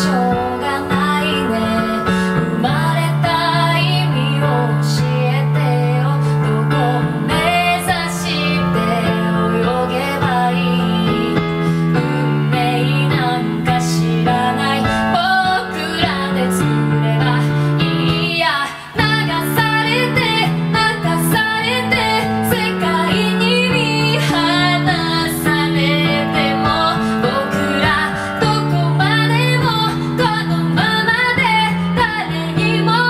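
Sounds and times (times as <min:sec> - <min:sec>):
piano chords: 0:00.0 - 0:33.0
woman singing a ballad: 0:00.0 - 0:33.0.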